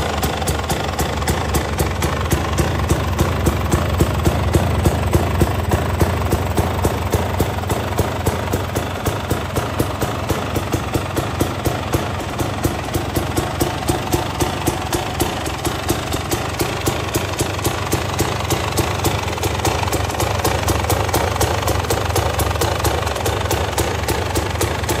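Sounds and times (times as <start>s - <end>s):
two-stroke engine idling: 0.0s - 25.0s.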